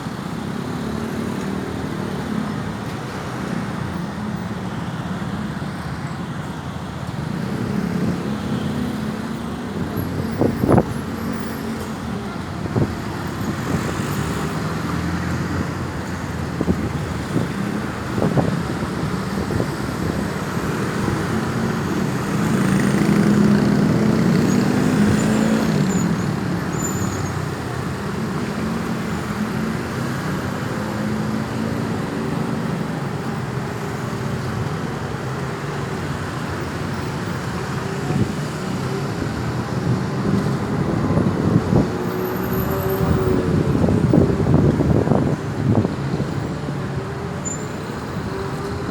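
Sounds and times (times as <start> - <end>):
road traffic passing: 0.0 - 48.9.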